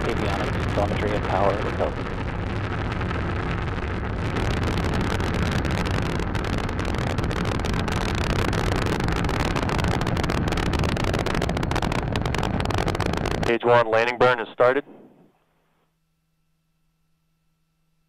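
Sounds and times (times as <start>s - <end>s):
rocket engines rumbling and crackling: 0.0s - 15.4s.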